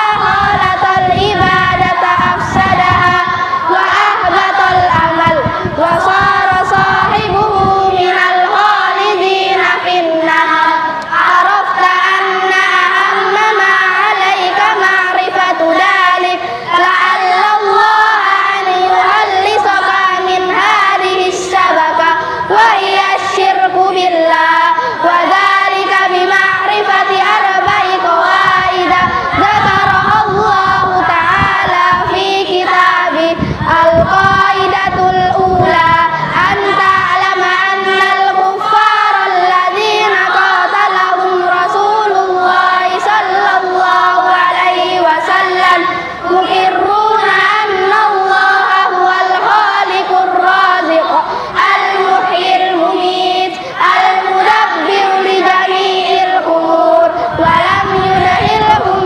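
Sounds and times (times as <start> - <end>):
children chanting in unison: 0.0 - 59.0.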